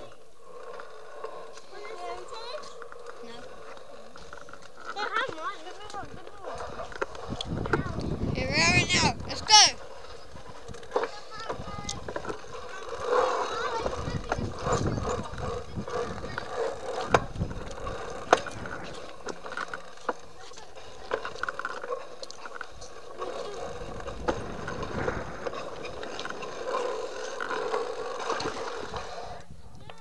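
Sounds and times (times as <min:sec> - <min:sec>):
bikes rolling on tarmac: 0:00.0 - 0:30.0.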